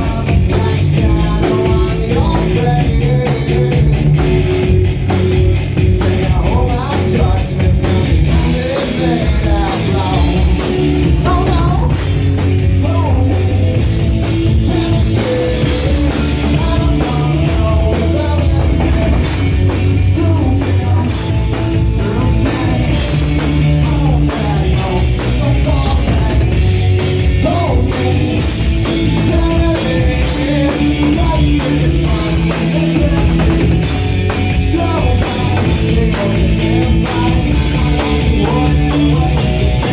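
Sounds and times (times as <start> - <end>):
person singing: 0.0 - 4.3, 6.0 - 39.9
distorted guitars: 0.0 - 39.9
drum kit: 0.0 - 39.9.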